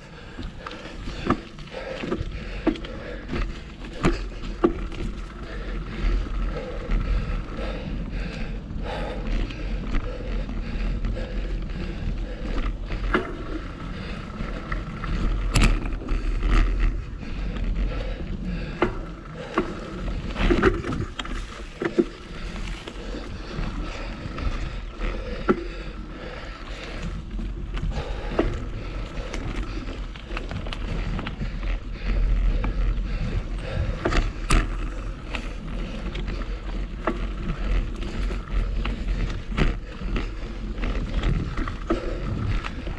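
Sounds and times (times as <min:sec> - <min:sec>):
bike tyres and rattle: 0:00.0 - 0:42.9
clacks and knocks over bumps: 0:00.0 - 0:42.9
wind rush on microphone: 0:00.0 - 0:42.9.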